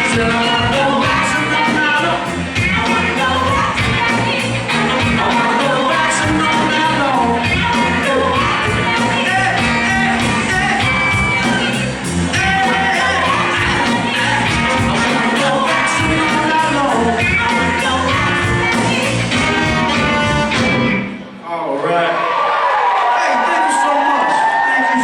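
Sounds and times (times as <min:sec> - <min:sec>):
steady driving beat: 0:00.0 - 0:21.0
lead singer: 0:00.0 - 0:21.4
live band playing: 0:00.0 - 0:21.4.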